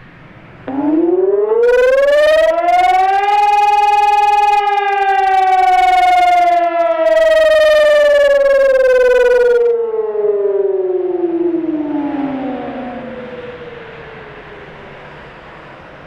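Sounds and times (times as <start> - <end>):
electronic siren rising tone: 0.6 - 15.7.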